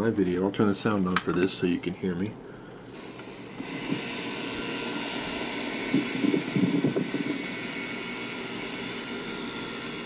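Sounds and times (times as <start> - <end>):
air conditioner unit running: 0.0 - 10.0.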